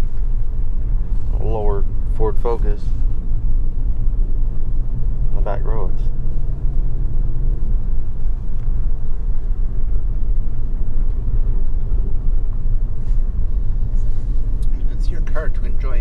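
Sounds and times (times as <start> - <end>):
car engine hum: 0.0 - 16.0
tyres rumbling on rough road: 0.0 - 16.0.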